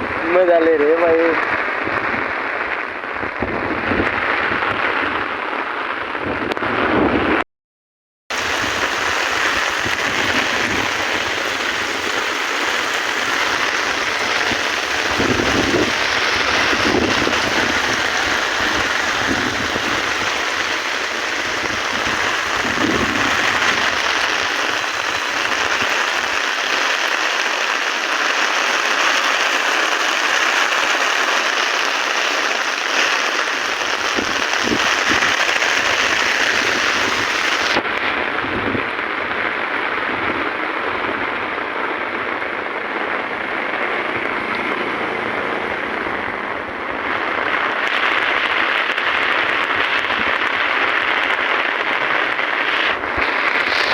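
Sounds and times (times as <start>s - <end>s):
torrential rain pouring: 0.0s - 7.4s, 8.3s - 53.9s.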